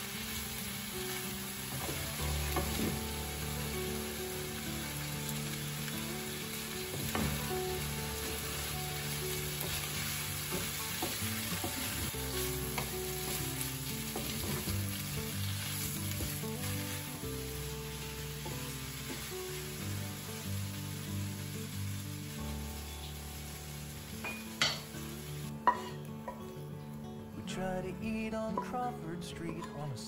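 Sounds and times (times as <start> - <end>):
food sizzling in a frying pan: 0.0 - 27.2.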